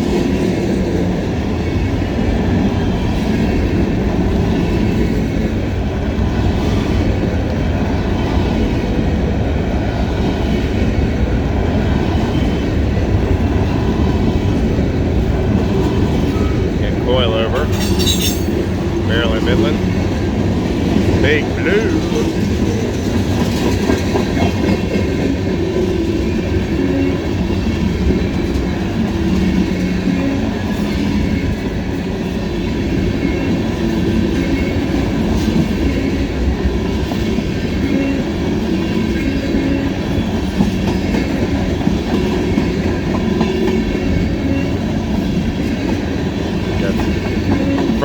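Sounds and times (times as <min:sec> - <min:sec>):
train wheels clicking on rails: 0:00.0 - 0:48.0.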